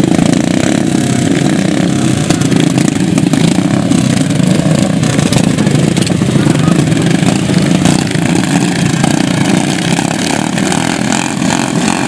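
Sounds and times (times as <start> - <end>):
lawn mower engines idling: 0.0 - 12.0.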